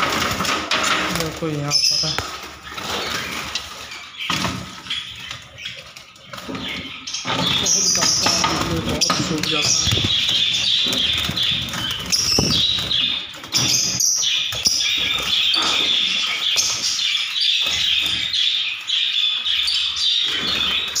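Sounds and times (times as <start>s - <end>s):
birds chattering and chirping: 0.0s - 21.0s.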